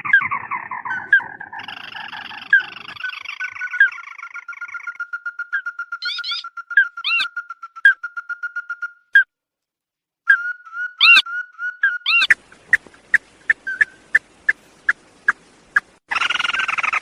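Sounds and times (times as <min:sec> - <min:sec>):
bird calls: 0:00.0 - 0:09.2, 0:10.3 - 0:17.0.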